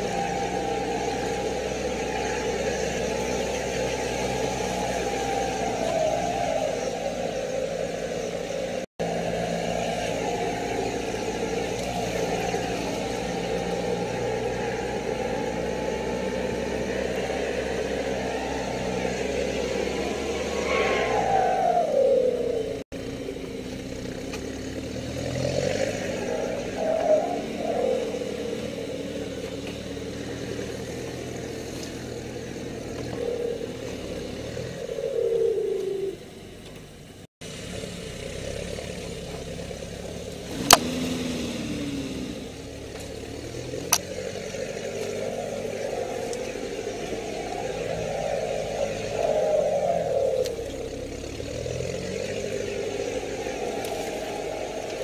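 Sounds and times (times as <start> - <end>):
off-road engine running: 0.0 - 55.0.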